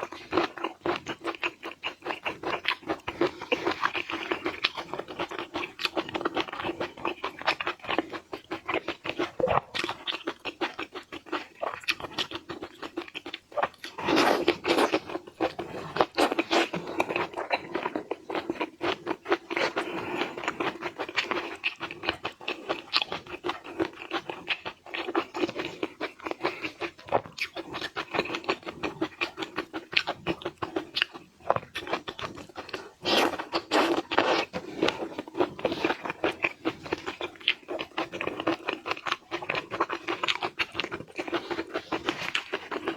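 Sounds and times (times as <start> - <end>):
crunching and chewing seafood: 0.0 - 42.9.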